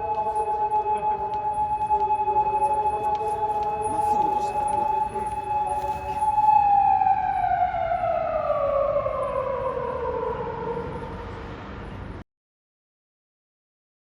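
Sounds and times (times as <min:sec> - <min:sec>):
police siren: 0:00.0 - 0:12.2.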